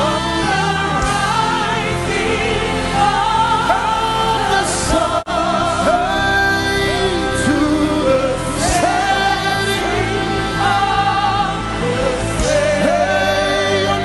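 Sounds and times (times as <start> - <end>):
gospel worship singing: 0.0 - 14.0
sustained musical accompaniment: 0.0 - 14.0.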